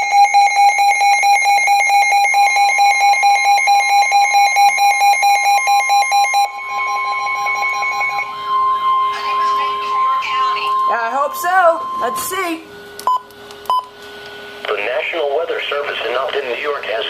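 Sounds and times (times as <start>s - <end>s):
two-tone alarm: 0.0s - 14.7s
fast alarm flutter: 0.2s - 14.6s.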